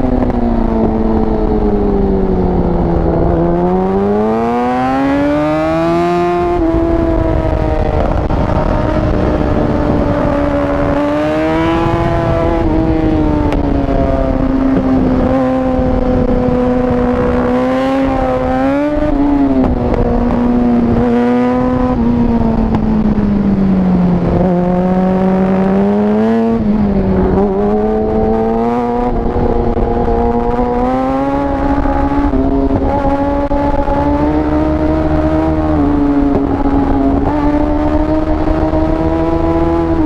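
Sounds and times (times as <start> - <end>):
gear changes: 0.0 - 40.0
motorcycle engine at high revs: 0.0 - 40.0.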